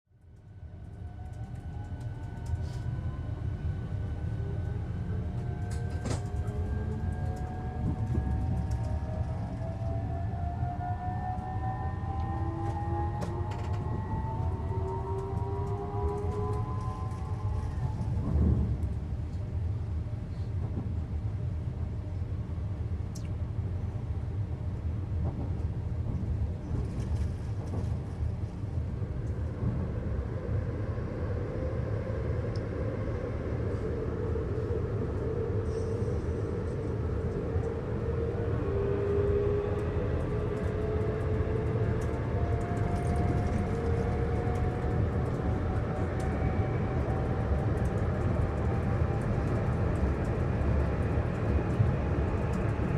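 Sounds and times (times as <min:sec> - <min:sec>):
train running gear rumble: 0:00.2 - 0:52.9.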